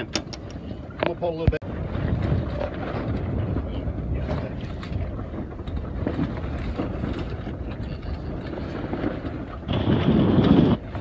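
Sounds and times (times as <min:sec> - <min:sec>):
rush of wind and water: 0:00.0 - 0:11.0
wind buffeting microphone: 0:00.0 - 0:11.0.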